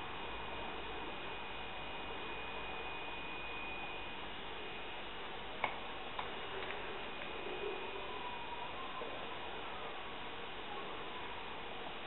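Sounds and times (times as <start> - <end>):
faint thin steady tone: 0.0 - 12.0
recording hiss: 0.0 - 12.0.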